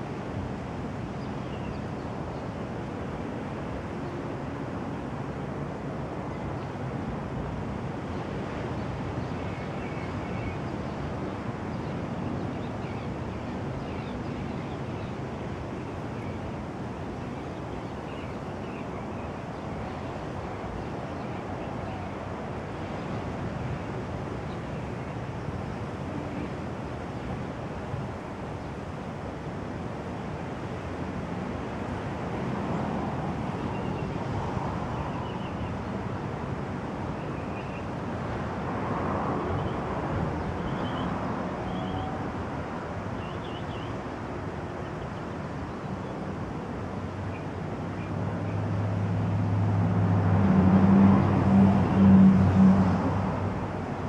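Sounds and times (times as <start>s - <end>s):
rushing outdoor noise: 0.0s - 54.0s.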